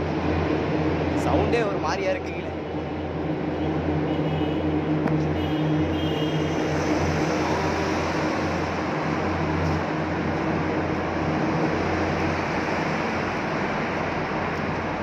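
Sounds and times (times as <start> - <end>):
traffic echoing in tunnel: 0.0 - 15.0.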